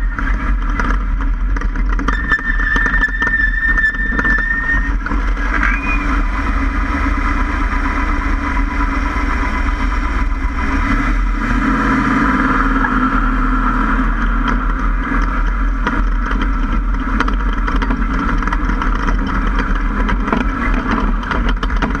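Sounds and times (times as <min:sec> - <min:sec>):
gravel and suspension knocks: 0:00.0 - 0:10.9, 0:14.0 - 0:22.0
truck engine: 0:00.0 - 0:22.0
tyres on dirt: 0:00.0 - 0:22.0
wind rumble: 0:00.0 - 0:22.0.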